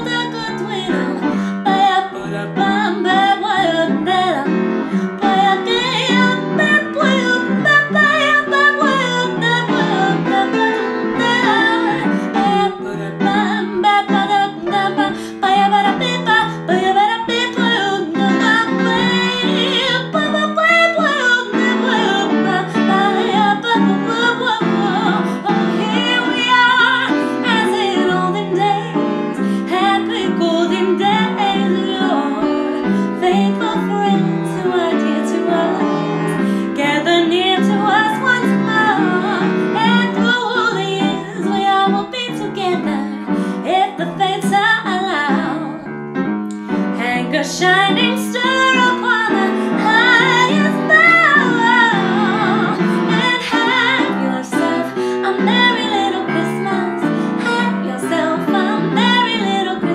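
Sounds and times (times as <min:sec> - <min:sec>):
woman singing jazz ballad: 0:00.0 - 0:45.9, 0:46.7 - 0:59.9
upright piano: 0:00.0 - 0:59.9.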